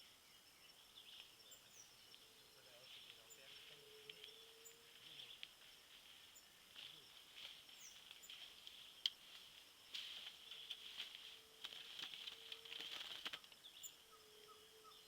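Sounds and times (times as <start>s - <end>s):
faint insect chirring: 0.0s - 15.0s.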